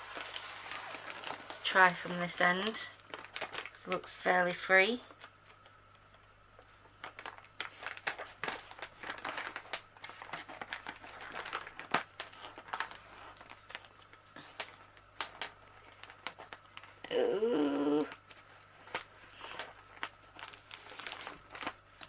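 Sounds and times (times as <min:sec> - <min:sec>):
mailing bag crinkling and tearing: 0:00.0 - 0:04.2, 0:06.6 - 0:17.1, 0:18.1 - 0:22.0.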